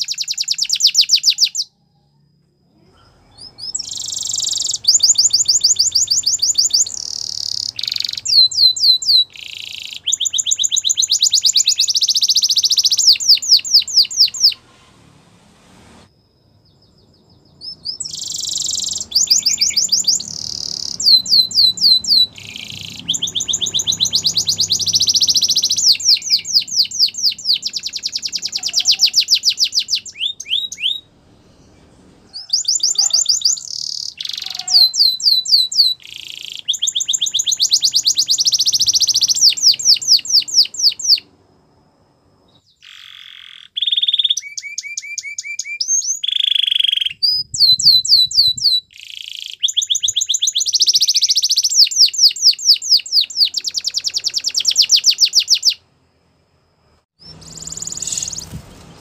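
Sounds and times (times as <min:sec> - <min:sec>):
canary singing trills: 0:00.0 - 0:14.9, 0:16.3 - 0:55.8, 0:57.2 - 0:59.0.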